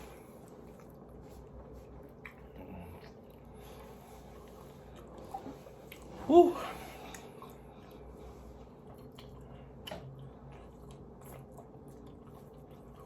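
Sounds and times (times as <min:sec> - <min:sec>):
person chewing food: 0:00.0 - 0:06.2, 0:07.0 - 0:13.0.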